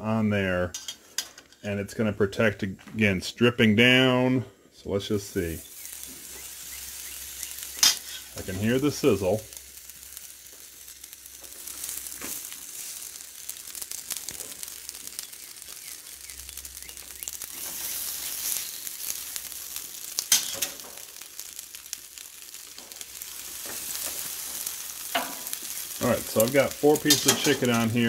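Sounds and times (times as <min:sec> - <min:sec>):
chicken sizzling on a grill: 0:04.8 - 0:28.0.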